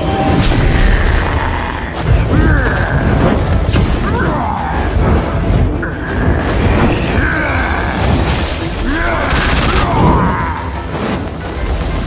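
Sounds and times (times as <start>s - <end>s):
dramatic film music: 0.0s - 12.0s.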